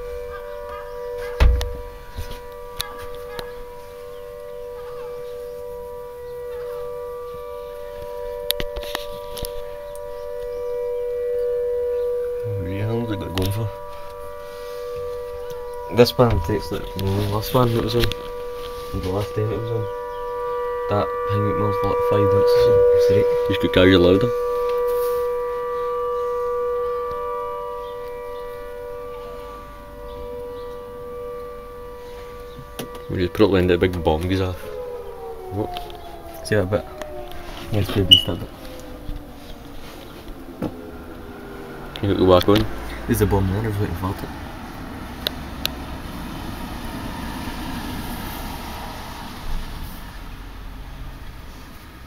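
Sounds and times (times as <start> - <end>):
air raid siren: 0.0 - 52.0.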